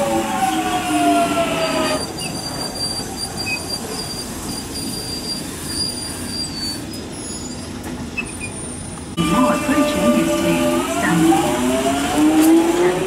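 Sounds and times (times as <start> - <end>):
high wheel squeal: 0.0 - 12.5
train rolling rumble: 0.0 - 13.0
train traction motor whine: 0.0 - 13.0.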